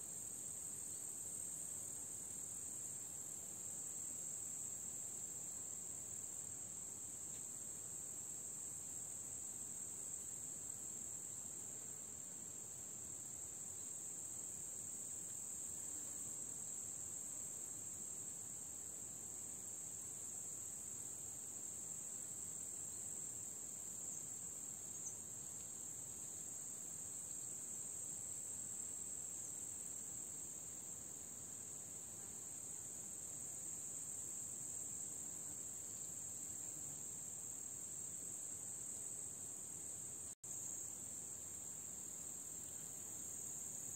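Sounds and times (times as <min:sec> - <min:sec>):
insects buzzing: 0:00.0 - 0:43.9.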